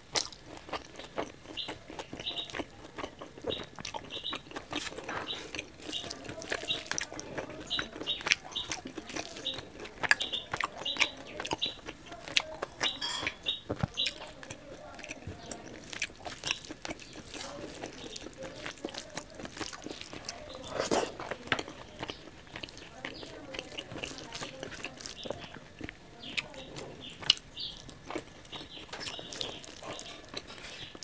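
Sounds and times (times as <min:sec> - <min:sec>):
chewing and wet mouth sounds: 0:00.0 - 0:31.0
fingers squishing rice on plate: 0:00.1 - 0:31.0.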